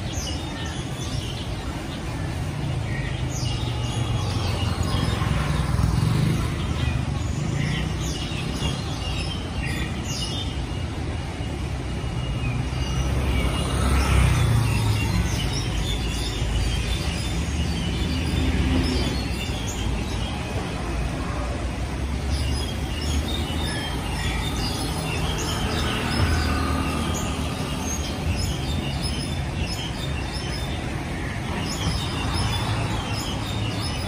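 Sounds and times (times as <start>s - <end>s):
small birds chirping and singing: 0.0s - 34.0s.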